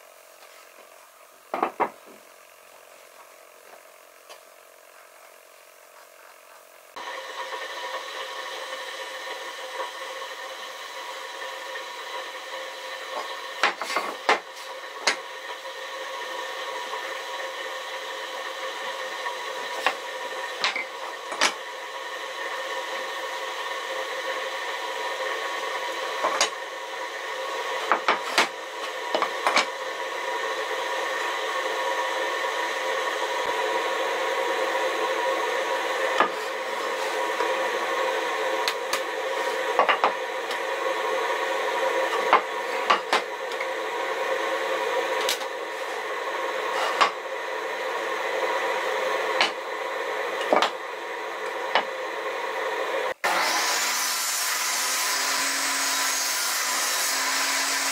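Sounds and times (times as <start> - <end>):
power tool whining on wood: 7.0 - 57.9.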